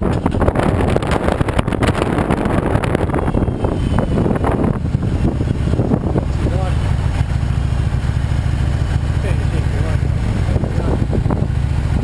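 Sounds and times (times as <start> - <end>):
motorcycle engine rumbling: 0.0 - 12.0
road noise: 0.0 - 12.0
wind buffeting microphone: 0.0 - 12.0.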